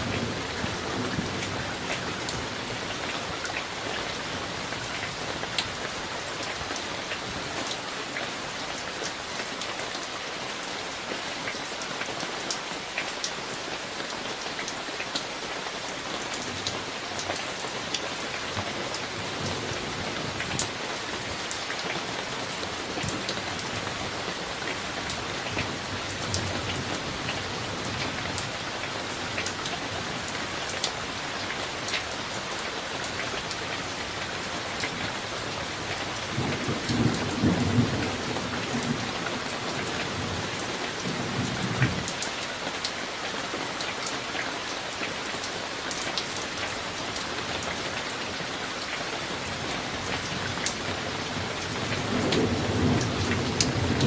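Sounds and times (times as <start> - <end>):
rain with drops tapping: 0.0 - 54.0.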